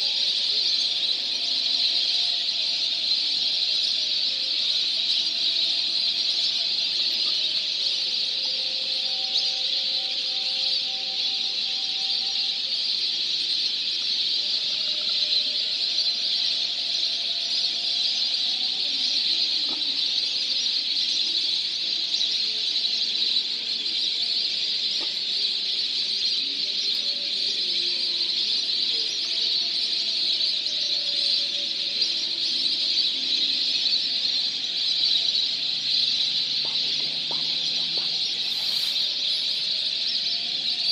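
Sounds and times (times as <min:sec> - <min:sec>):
waterbirds chirping and whistling: 0:00.0 - 0:40.9.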